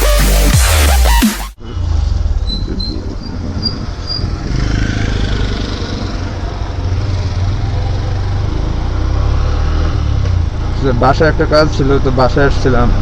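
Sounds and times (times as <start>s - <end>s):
motorcycle engine: 1.5s - 13.0s.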